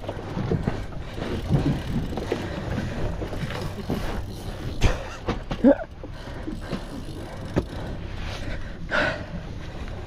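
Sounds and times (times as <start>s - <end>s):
boat background noise: 0.0s - 10.0s.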